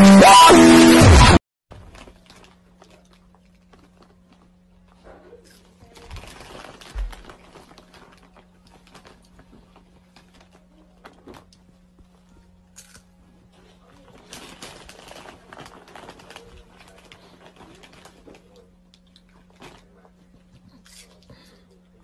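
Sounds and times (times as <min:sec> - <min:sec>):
plastic chip bag crinkling: 0:01.7 - 0:04.9, 0:05.5 - 0:11.9, 0:12.7 - 0:21.2
crackles of eating chips: 0:01.7 - 0:22.0.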